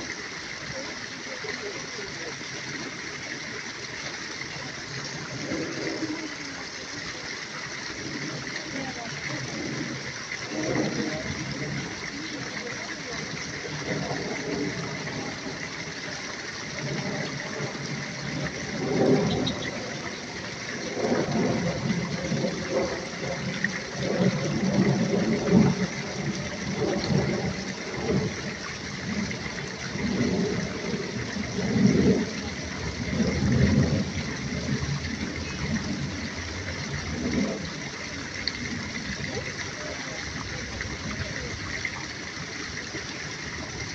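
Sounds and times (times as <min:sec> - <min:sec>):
steady rushing noise: 0:00.0 - 0:43.9.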